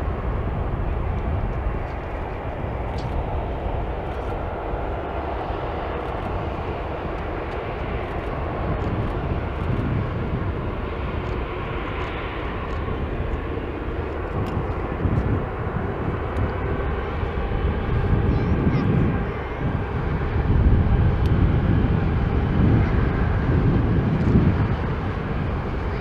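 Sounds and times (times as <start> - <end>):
jet engines during takeoff roll: 0.0 - 26.0.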